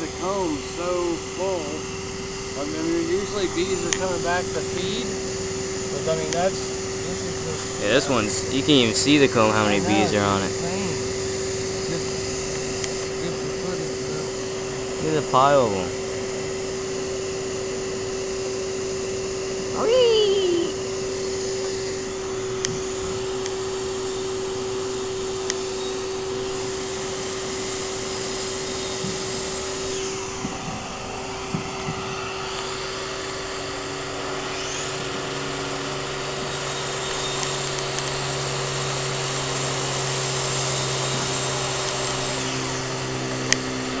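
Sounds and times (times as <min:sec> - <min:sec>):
second lower hum: 0:00.0 - 0:44.0
vacuum motor hum: 0:00.0 - 0:44.0.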